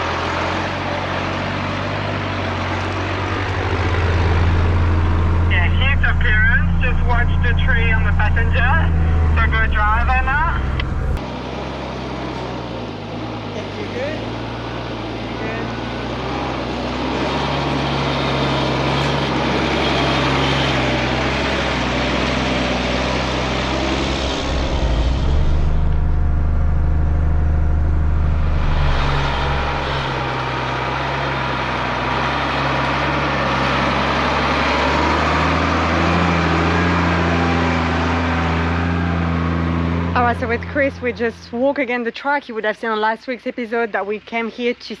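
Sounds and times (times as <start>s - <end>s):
diesel truck engine running: 0.0s - 45.0s.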